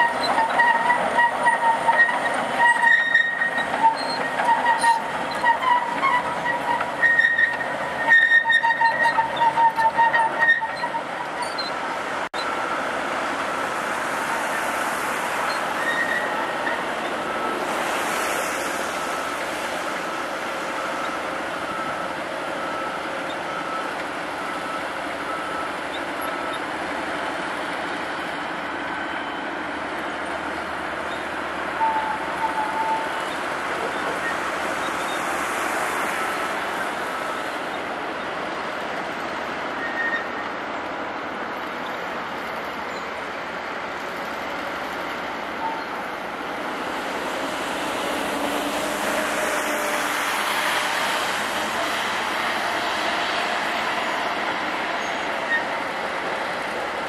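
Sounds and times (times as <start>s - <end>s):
bulldozer tracks squealing: 0.0s - 12.8s, 14.4s - 46.4s, 47.5s - 57.0s.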